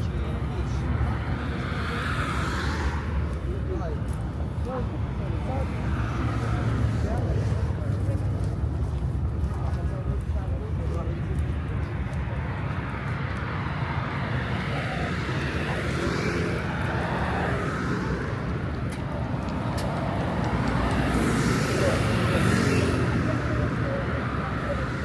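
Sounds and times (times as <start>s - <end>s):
city traffic rumble: 0.0s - 25.0s.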